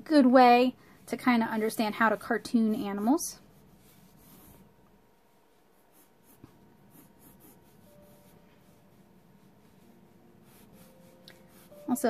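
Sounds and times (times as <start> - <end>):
pencil scratching on paper: 0.8 - 12.0.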